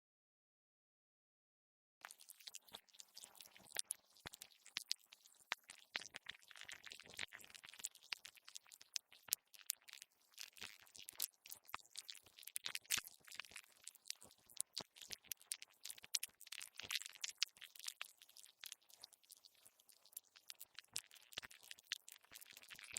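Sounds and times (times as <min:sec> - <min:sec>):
insects clicking and crackling: 0:02.0 - 0:22.9.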